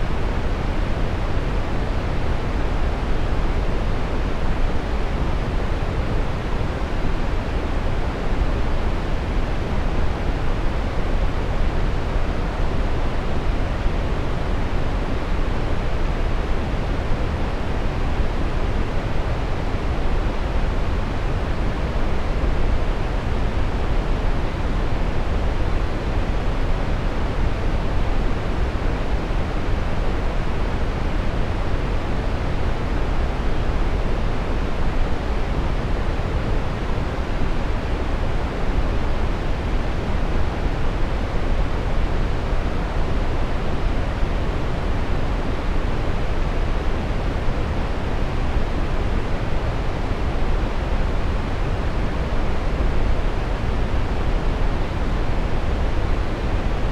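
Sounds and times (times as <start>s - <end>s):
brown noise rushing hiss: 0.0s - 56.9s.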